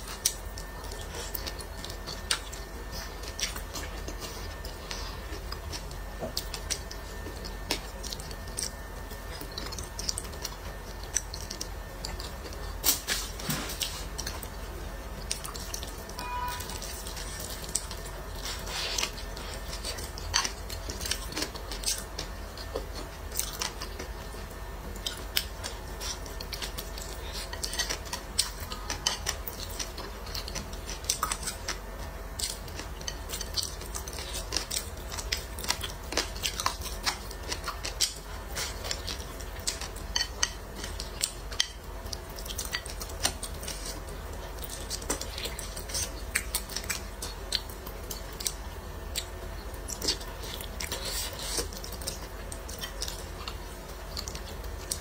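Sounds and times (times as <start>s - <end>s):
chewing: 0.0s - 55.0s
steady low hum: 0.0s - 55.0s.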